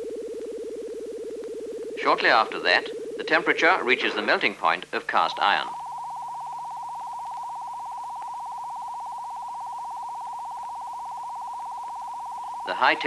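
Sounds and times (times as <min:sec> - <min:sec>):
pulsing electronic tone: 0:00.0 - 0:13.0.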